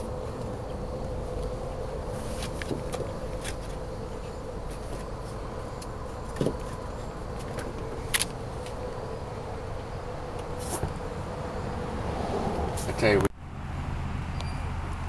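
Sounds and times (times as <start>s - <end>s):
steady background hum: 0.0s - 14.3s.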